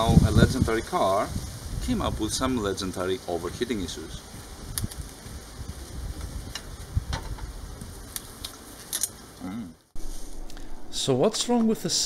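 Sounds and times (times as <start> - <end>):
light hiss: 0.1 - 10.8.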